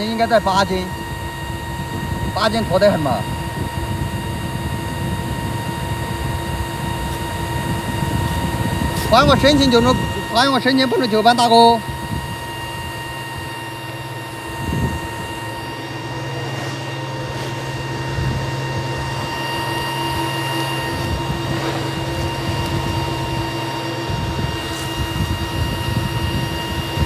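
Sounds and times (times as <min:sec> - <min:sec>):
high whining tones: 0:00.0 - 0:27.0
mechanical hum: 0:00.0 - 0:27.0.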